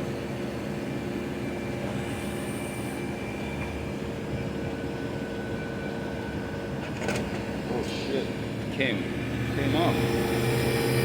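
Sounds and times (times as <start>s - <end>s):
faint high whine: 0.0s - 11.0s
machinery hum: 0.0s - 11.0s.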